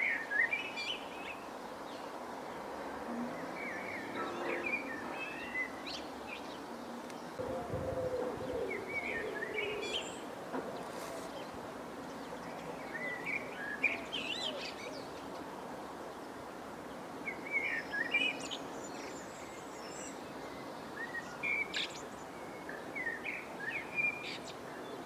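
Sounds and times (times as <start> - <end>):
songbirds twittering: 3.2 - 25.0.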